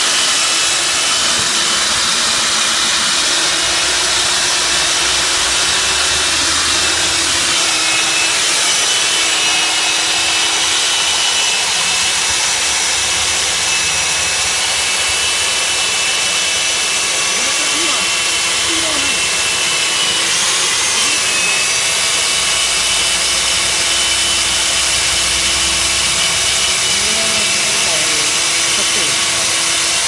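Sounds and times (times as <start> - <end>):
core drill whining and grinding: 0.0 - 30.0.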